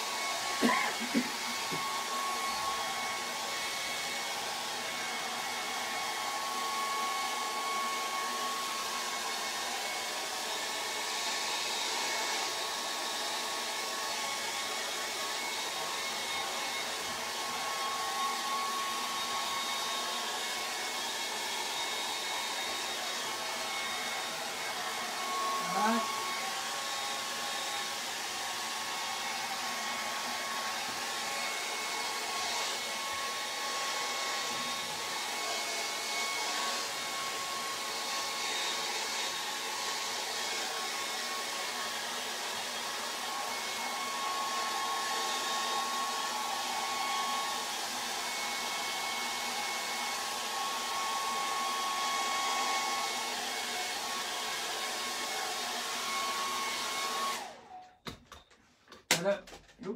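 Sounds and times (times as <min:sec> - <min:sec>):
hair dryer blowing: 0:00.0 - 0:57.9.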